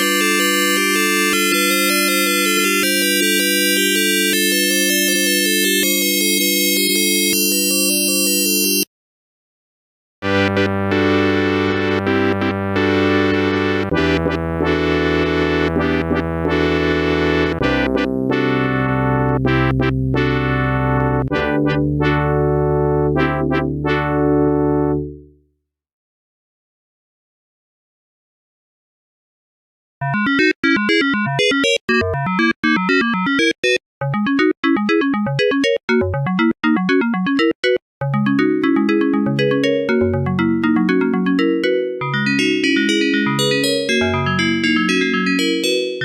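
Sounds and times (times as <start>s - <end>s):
synthesized electric piano music: 0.0s - 8.9s, 10.2s - 25.3s, 30.0s - 46.0s.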